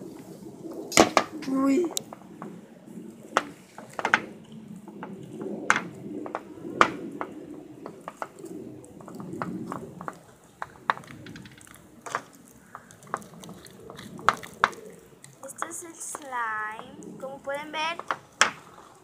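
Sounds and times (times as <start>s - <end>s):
low uneven murmur: 0.0s - 19.0s.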